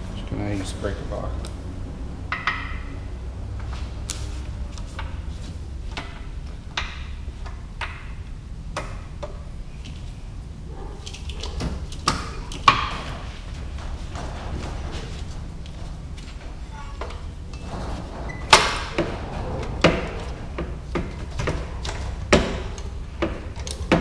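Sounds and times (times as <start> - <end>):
low hum: 0.0 - 23.6.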